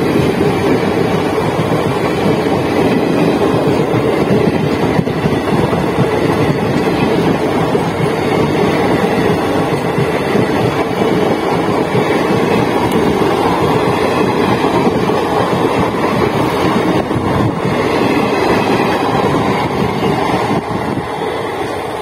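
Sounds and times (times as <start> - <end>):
rushing air: 0.0 - 22.0
train wheels rumbling on rails: 0.0 - 22.0.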